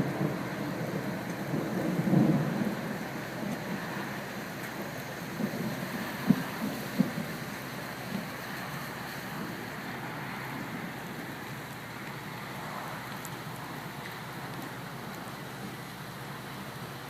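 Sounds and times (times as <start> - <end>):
rain falling: 0.0 - 17.0
water flowing down a street: 0.0 - 17.0.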